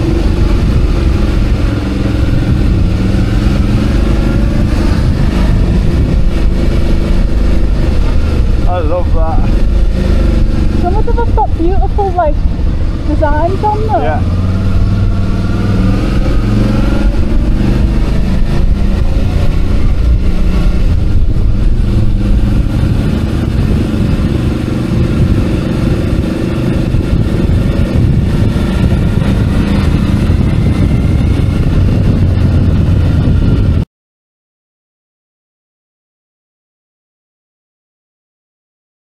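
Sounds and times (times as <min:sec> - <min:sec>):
motorcycle engine running: 0:00.0 - 0:33.8
wind rumble on microphone: 0:00.0 - 0:33.9.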